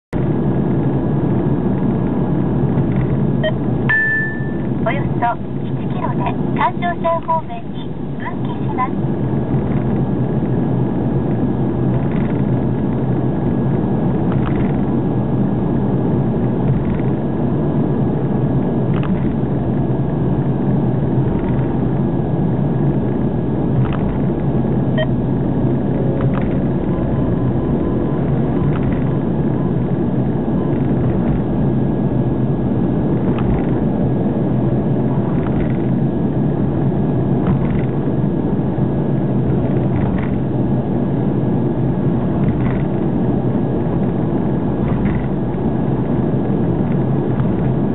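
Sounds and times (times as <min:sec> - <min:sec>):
road and engine rumble: 0:00.0 - 0:47.9.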